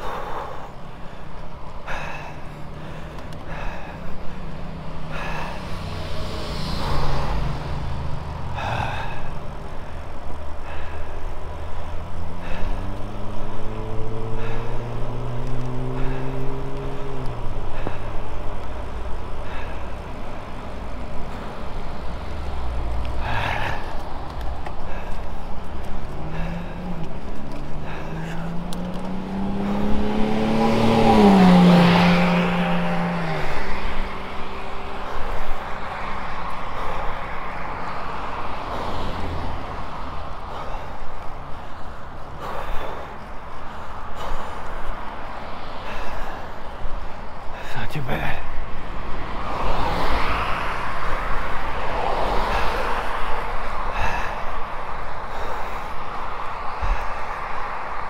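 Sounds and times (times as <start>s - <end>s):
tyre and road noise: 0.0s - 58.0s
vehicle engine passing by: 2.7s - 58.0s.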